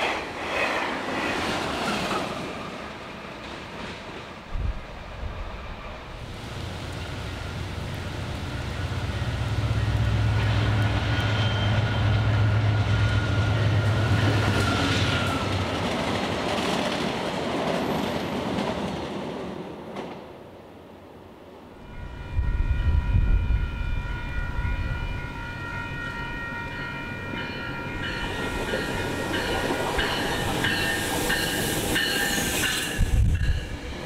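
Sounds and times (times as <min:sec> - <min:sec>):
diesel locomotive engine drone: 0:00.0 - 0:16.7, 0:21.6 - 0:34.0
passenger train passing: 0:00.0 - 0:34.0.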